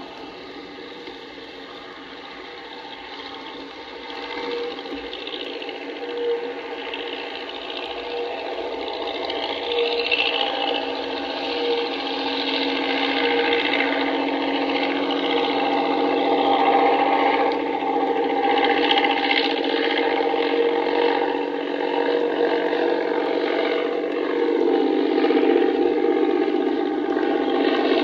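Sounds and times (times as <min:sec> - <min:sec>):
vehicle engine running with clatter: 0:00.0 - 0:28.0.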